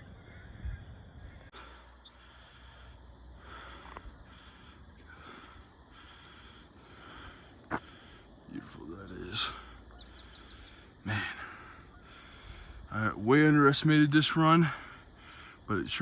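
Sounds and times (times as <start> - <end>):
low rumble of wind: 0.0 - 15.7
heavy breathing: 1.5 - 13.3, 14.6 - 15.7.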